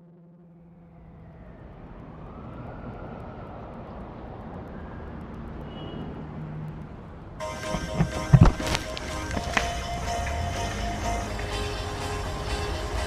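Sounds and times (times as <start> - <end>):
low hum: 0.0 - 5.6, 6.7 - 13.0
steady rushing noise: 0.6 - 13.0.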